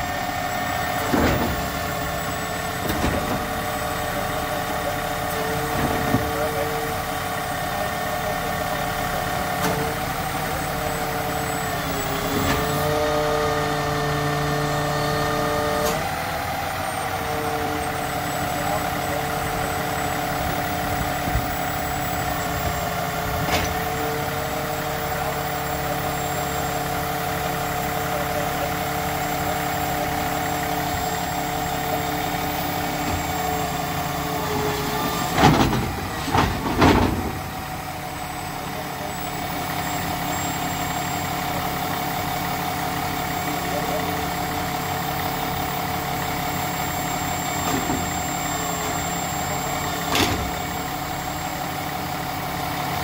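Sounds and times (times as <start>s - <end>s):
engine whine: 0.0s - 53.0s
garbage truck engine idling: 0.0s - 53.0s.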